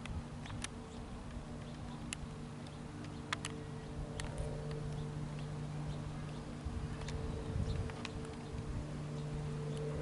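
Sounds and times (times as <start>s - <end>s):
distant jet engines droning: 0.0s - 10.0s.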